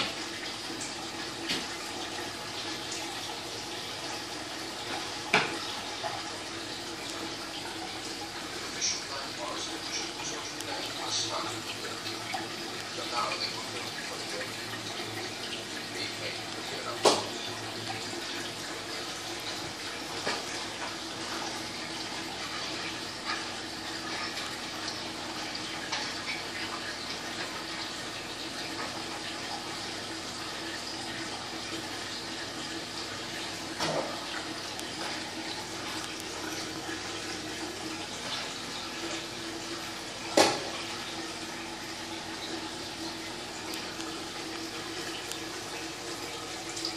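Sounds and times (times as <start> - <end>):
aquarium water bubbling: 0.0 - 46.9.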